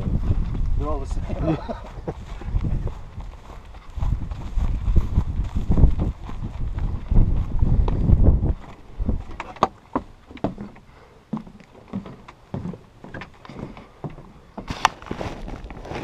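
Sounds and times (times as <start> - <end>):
footsteps and knocks on wood: 1.7 - 16.0.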